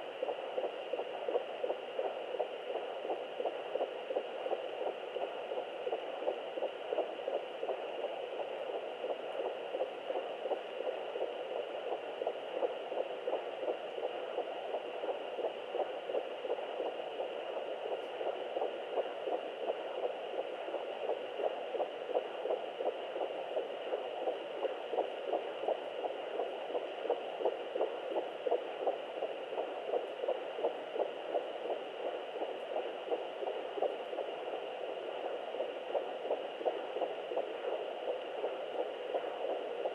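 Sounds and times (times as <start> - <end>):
fetal heartbeat pulses: 0.0 - 39.9.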